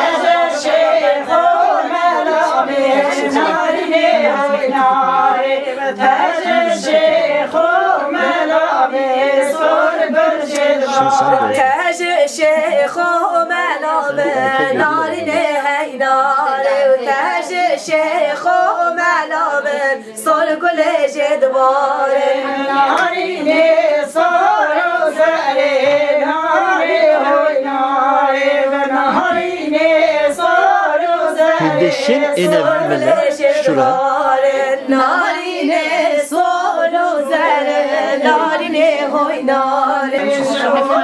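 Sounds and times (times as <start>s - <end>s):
women singing unaccompanied: 0.0s - 41.0s.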